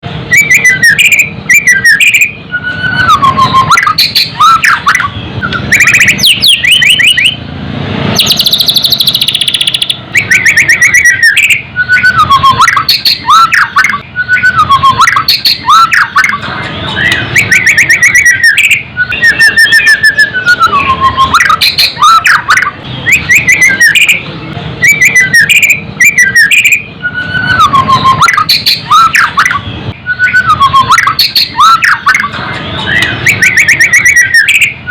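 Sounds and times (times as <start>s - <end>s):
bird singing loudly: 0.2s - 7.4s, 8.1s - 34.9s.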